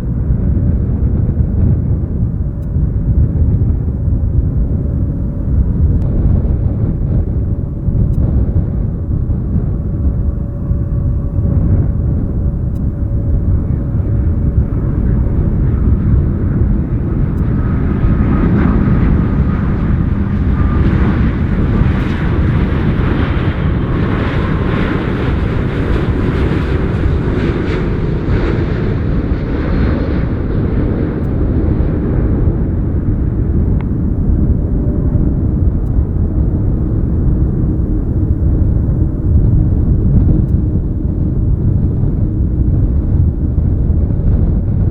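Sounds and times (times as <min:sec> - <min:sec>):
airliner engine noise passing over: 0:00.0 - 0:44.9
faint whining tones: 0:00.0 - 0:44.9
steady low rumble: 0:00.0 - 0:44.9.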